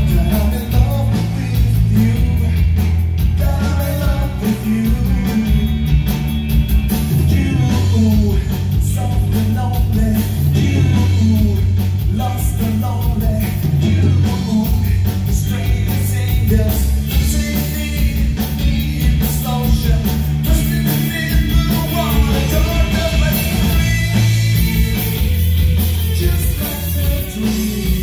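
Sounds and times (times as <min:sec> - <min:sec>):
man singing: 0:00.0 - 0:05.9, 0:07.1 - 0:28.0
bass guitar: 0:00.0 - 0:28.0
drum kit: 0:00.0 - 0:28.0
electric guitars: 0:00.0 - 0:28.0.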